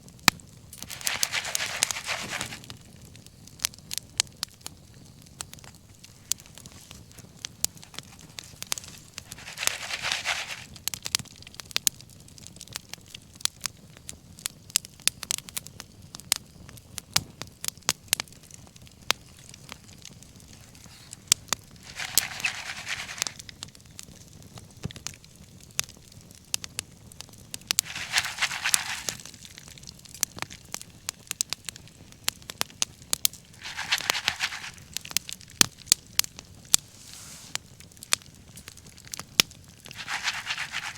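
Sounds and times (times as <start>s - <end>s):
wood fire crackling and popping: 0.0s - 9.4s, 10.6s - 22.0s, 22.8s - 40.8s.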